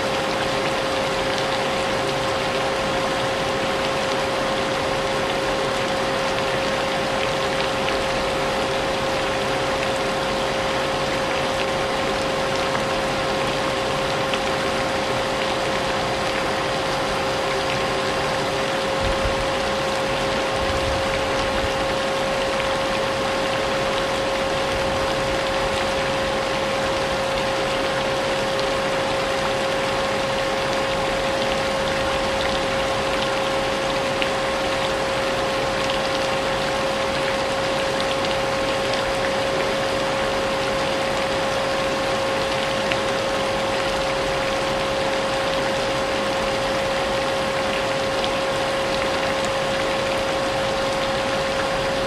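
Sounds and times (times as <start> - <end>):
rain hiss: 0.0 - 52.0.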